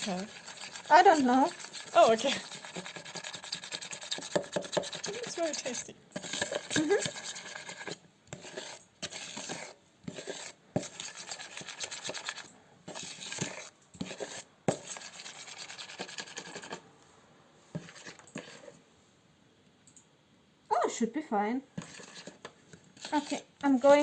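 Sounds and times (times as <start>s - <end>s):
spoon scraping frosting in bowl: 0.0s - 16.9s, 17.7s - 18.8s, 21.8s - 24.0s.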